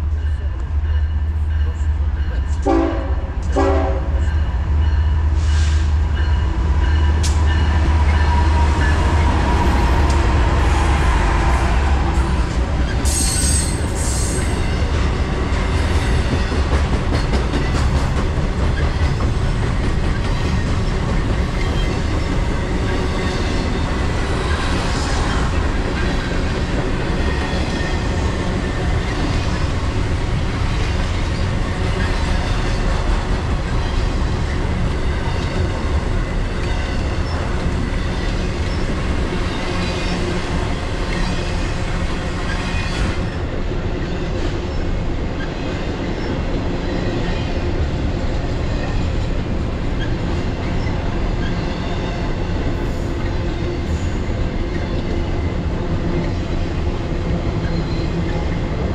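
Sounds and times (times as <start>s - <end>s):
train wheels on rails: 0.0s - 58.9s.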